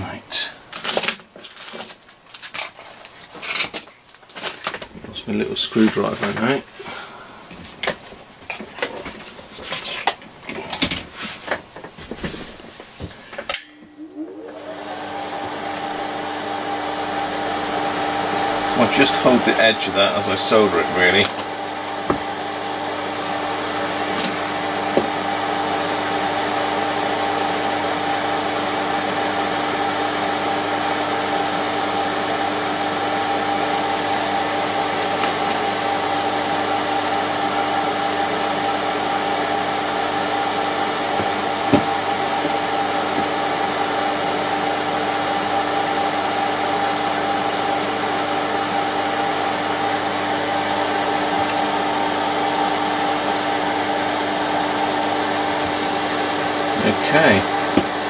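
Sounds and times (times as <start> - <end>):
fan humming: 0.0 - 58.0.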